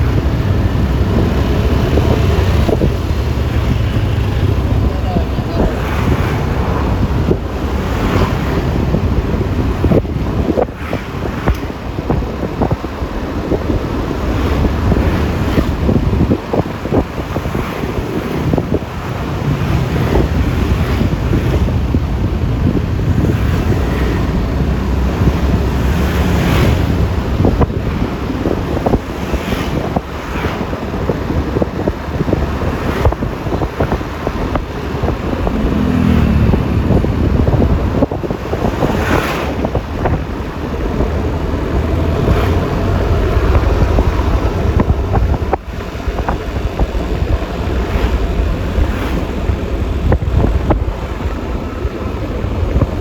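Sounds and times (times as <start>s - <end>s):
road noise: 0.0s - 53.0s
wind buffeting microphone: 0.0s - 53.0s.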